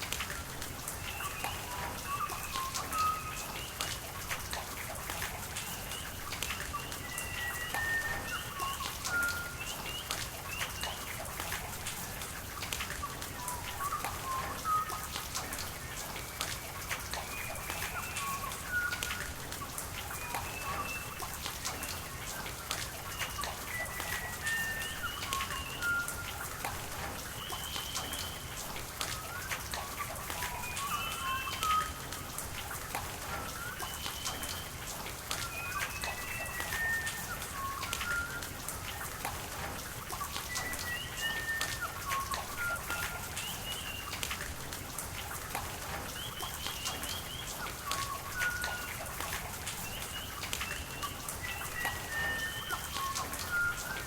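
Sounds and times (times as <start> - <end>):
rain with ticking drops: 0.0 - 54.0.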